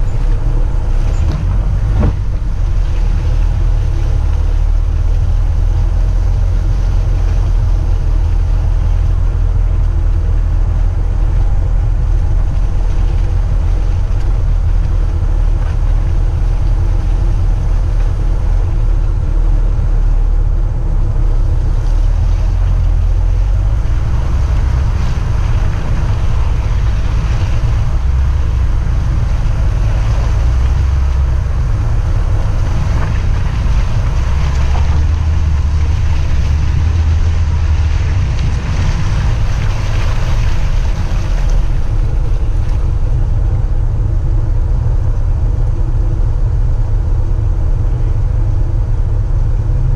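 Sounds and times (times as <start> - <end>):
wind on microphone: 0.0 - 49.8
car engine hum: 0.0 - 49.9
heavy low rumble: 0.0 - 49.9.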